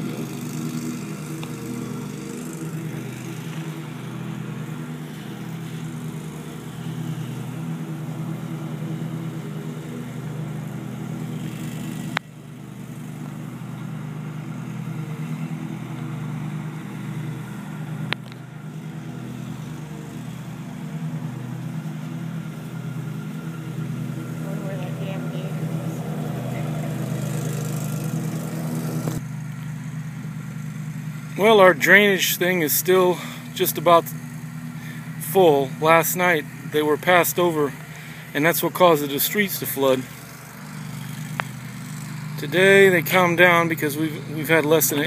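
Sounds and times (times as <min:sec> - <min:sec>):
motor humming: 0:00.0 - 0:45.0.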